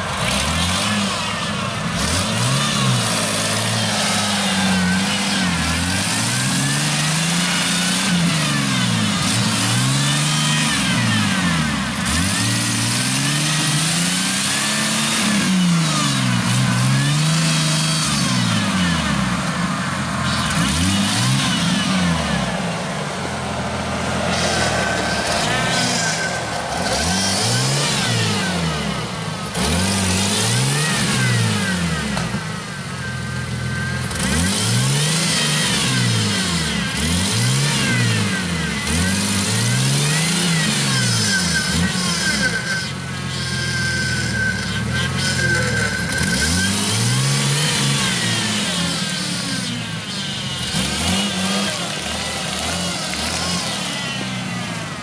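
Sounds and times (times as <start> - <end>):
engine revving: 0.0 - 55.0.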